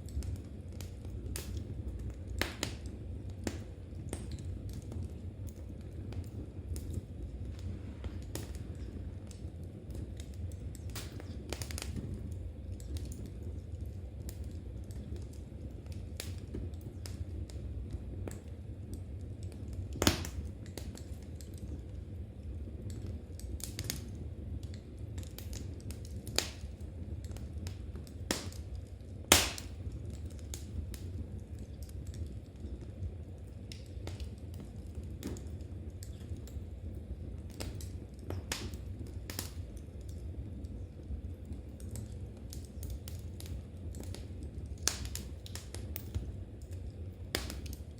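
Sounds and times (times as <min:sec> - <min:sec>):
fire popping: 0:00.0 - 0:47.9
wood fire crackling: 0:00.0 - 0:47.9.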